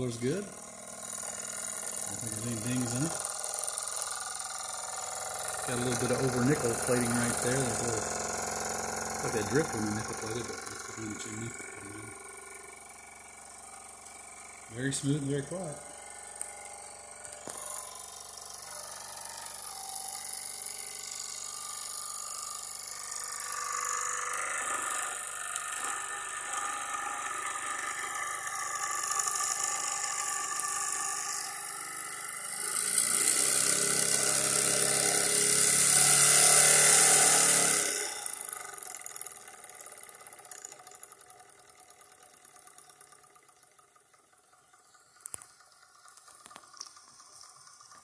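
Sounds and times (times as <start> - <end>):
toy steam engine whirring: 0.0 - 48.0.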